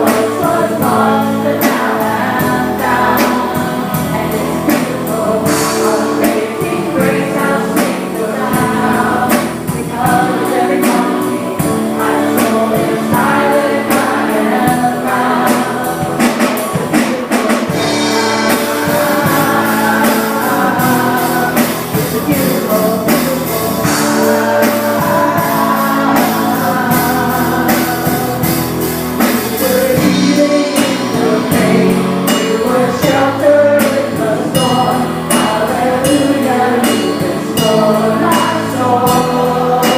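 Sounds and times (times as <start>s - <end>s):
band instruments: 0.0s - 39.9s
group singing gospel song: 0.0s - 39.9s
steady percussion beat: 0.0s - 39.9s.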